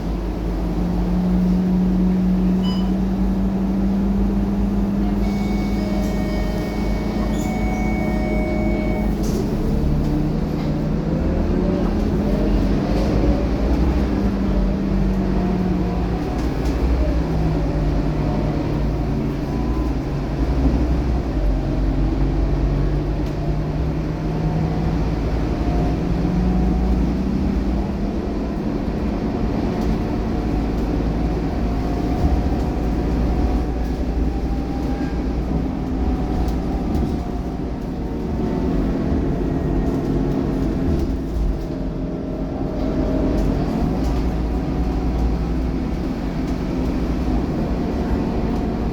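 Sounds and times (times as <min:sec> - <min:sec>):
bus diesel engine: 0:00.0 - 0:48.9
rumble of moving bus: 0:00.0 - 0:48.9.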